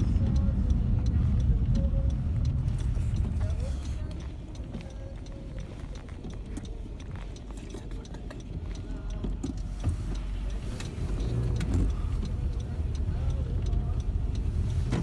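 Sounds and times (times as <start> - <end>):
car engine and road rumble: 0.0 - 15.0
light clicks and ticks: 0.0 - 15.0.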